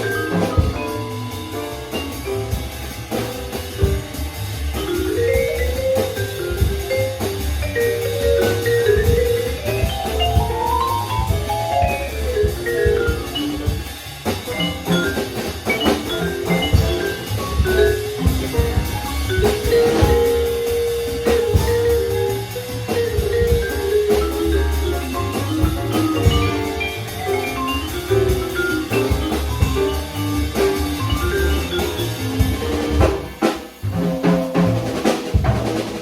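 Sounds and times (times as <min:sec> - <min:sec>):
vibraphone: 0:00.0 - 0:33.2
drum kit: 0:00.0 - 0:36.0
piano: 0:00.0 - 0:36.0
upright bass: 0:00.0 - 0:36.0.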